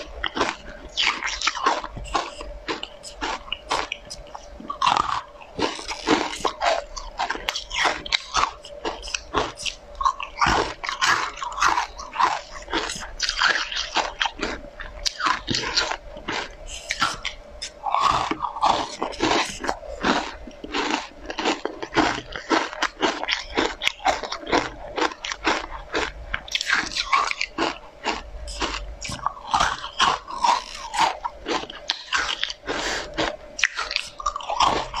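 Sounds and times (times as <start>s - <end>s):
person crunching sweet: 0.0s - 35.0s.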